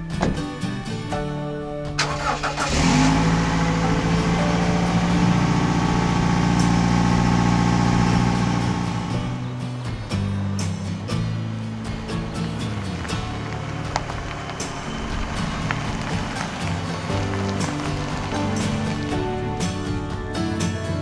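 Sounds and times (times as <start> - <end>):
van engine starting and idling: 0.0 - 21.0.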